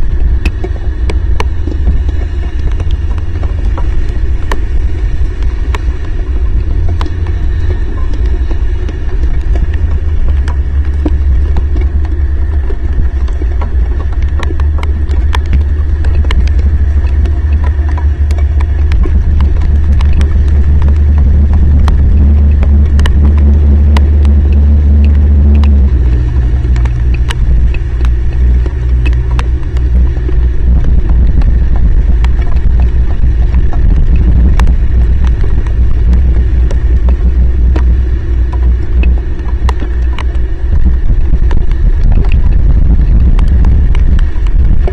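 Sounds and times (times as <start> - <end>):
heavy rain: 0.0 - 44.9
low rumble: 0.0 - 44.9
raindrops ticking on microphone: 0.0 - 44.9.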